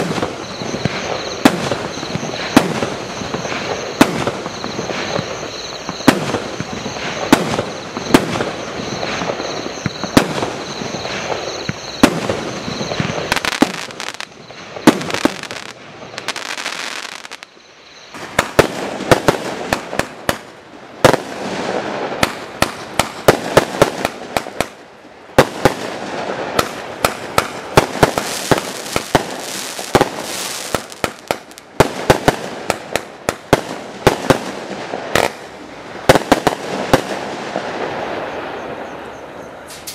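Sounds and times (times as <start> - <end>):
fireworks shot bangs: 0.0 - 17.5, 18.1 - 24.8, 25.4 - 39.0
fireworks crackling: 0.0 - 39.1.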